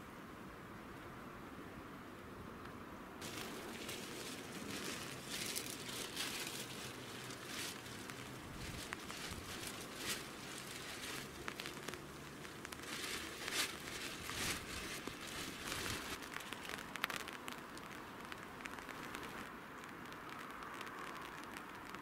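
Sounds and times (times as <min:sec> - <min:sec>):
light rain pattering: 0:03.2 - 0:22.0
raindrops tapping nearby: 0:03.2 - 0:22.0.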